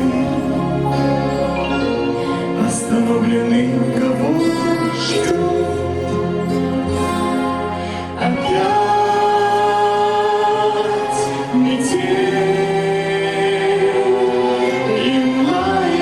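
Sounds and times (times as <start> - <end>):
musical accompaniment: 0.0 - 16.0
woman and man singing duet: 0.0 - 16.0.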